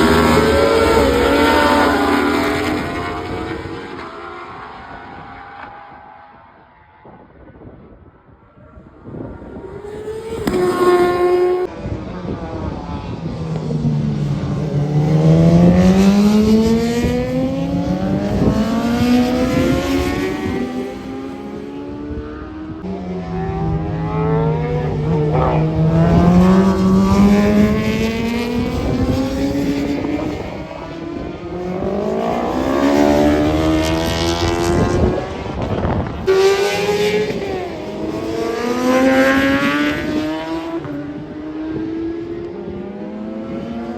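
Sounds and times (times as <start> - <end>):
racing motorcycles passing: 0.0 - 43.9.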